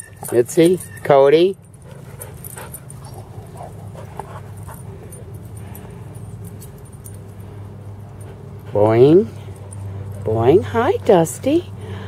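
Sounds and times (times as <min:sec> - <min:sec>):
steady low hum: 0:00.0 - 0:12.0
dogs panting: 0:01.6 - 0:11.8.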